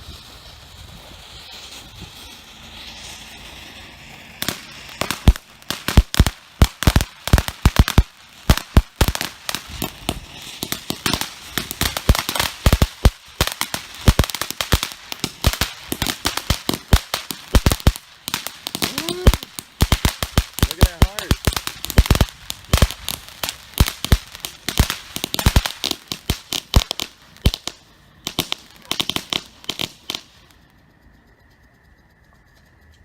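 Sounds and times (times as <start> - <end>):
fountain firework hiss: 0.0 - 30.8
firework crackling and popping: 0.0 - 31.2.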